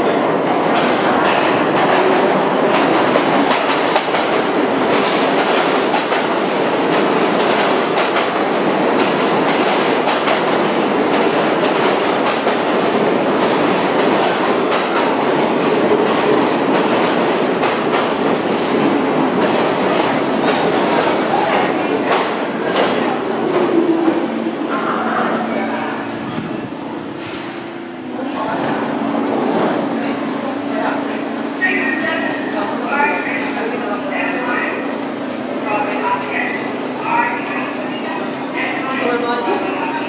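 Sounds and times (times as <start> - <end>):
subway train rumbling: 0.0 - 40.0.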